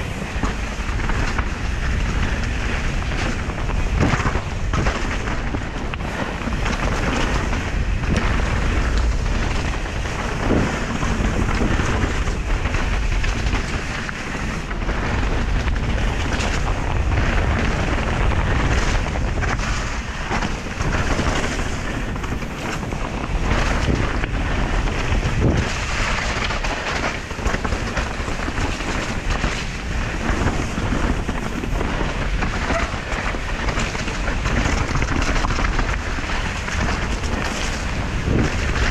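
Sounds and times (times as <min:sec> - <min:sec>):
bike knocks and rattles: 0:00.0 - 0:38.9
tyres rolling over dirt and rocks: 0:00.0 - 0:38.9
wind rush on microphone: 0:00.0 - 0:38.9.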